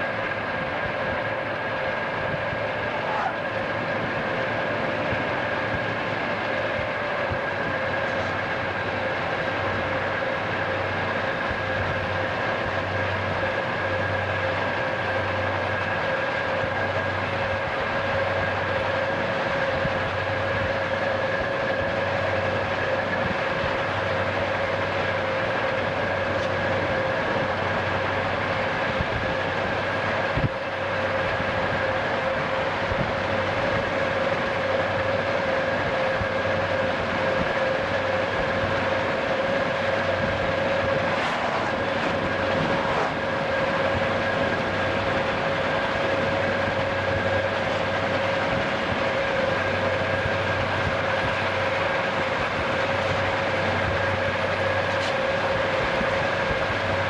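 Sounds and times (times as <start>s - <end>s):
freight train running: 0.0s - 57.0s
road and wind noise: 0.0s - 57.0s.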